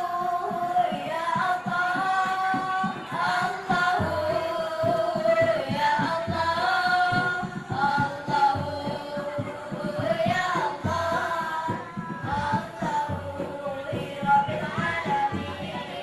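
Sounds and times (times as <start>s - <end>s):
backing track with steady beat: 0.0s - 16.0s
children singing: 0.0s - 16.0s.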